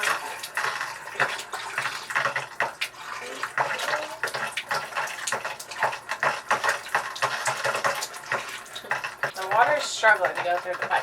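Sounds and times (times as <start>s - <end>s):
sink tap water sputtering: 0.0s - 11.0s.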